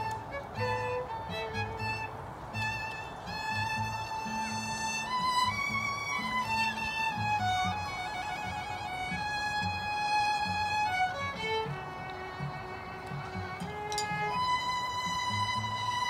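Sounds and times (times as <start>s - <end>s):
cello playing: 0.0s - 16.0s
violins holding long notes: 0.0s - 16.0s.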